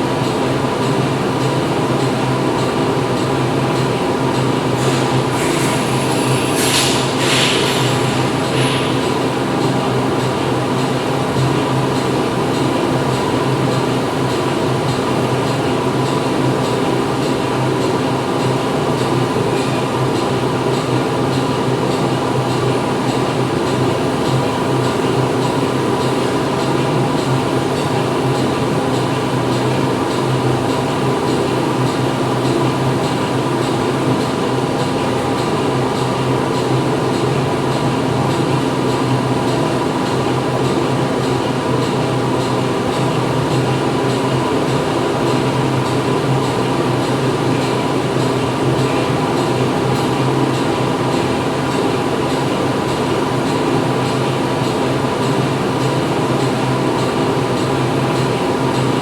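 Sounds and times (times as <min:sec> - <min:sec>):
loud factory machinery running: 0:00.0 - 0:59.0.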